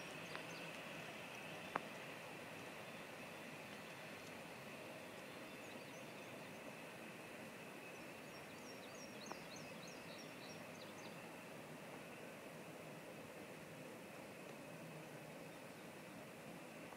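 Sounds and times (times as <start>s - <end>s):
faint outdoor hiss: 0.0s - 16.9s.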